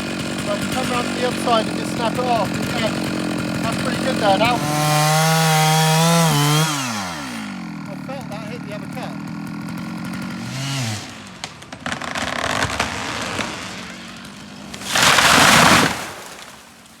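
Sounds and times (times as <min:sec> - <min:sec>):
tree crashing down: 0:00.0 - 0:07.9, 0:08.8 - 0:17.0
chainsaw idling: 0:00.0 - 0:16.8
wood cracking and splintering: 0:00.0 - 0:17.0.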